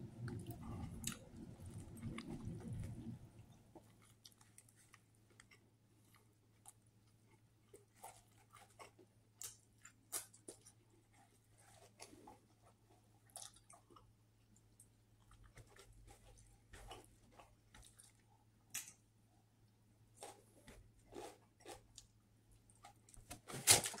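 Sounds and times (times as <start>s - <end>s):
low steady hum: 0.0s - 24.0s
person chewing with crunches: 0.2s - 3.2s, 3.8s - 19.0s, 20.1s - 24.0s.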